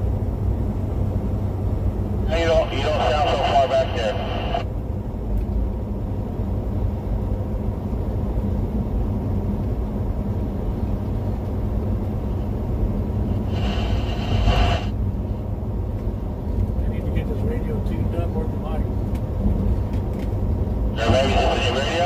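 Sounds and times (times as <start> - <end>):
vehicle road rumble: 0.0 - 22.0.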